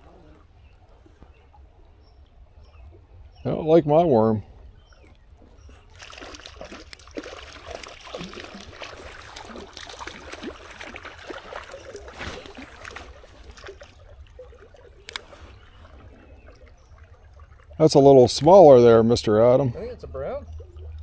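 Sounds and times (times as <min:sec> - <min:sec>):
creek water splashing: 0:00.0 - 0:21.0.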